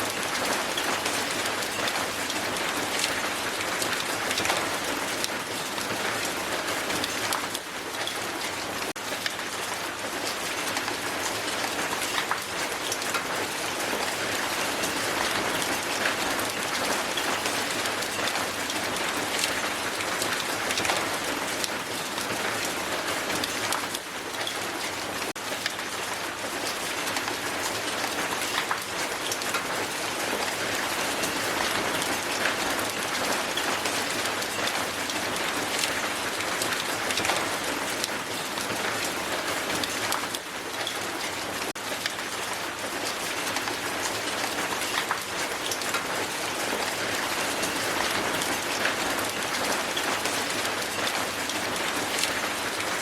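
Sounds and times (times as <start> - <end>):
hail falling on ground: 0.1 - 53.0.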